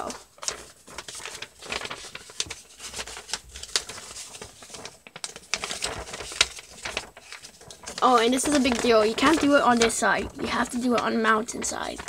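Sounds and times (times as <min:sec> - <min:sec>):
paper rustling and crinkling: 0:00.0 - 0:12.0
sharp paper crackle: 0:00.0 - 0:12.0.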